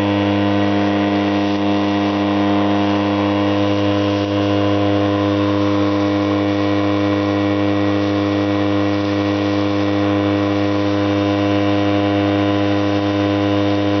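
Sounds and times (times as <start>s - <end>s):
low buzzing hum: 0.0s - 14.0s.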